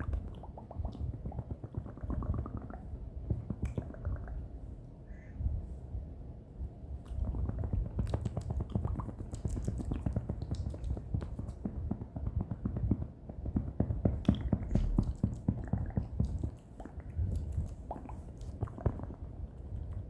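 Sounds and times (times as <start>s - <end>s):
mouth clicks and smacks: 0.0s - 5.0s, 7.0s - 20.0s.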